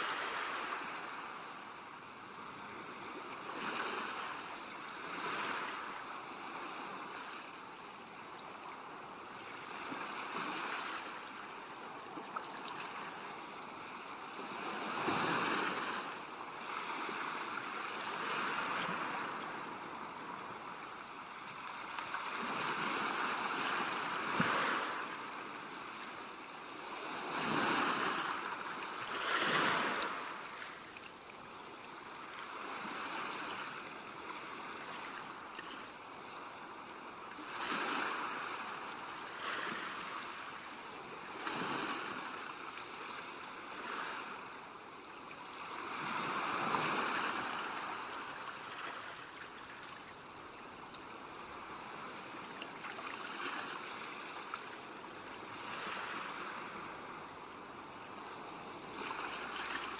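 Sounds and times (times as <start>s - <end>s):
small waves washing on shore: 0.0s - 59.9s.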